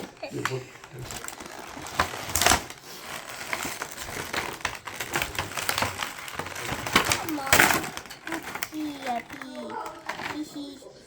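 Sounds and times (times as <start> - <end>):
plastic toy pieces clicking: 0.0 - 10.6
packaging crinkling: 0.0 - 10.7.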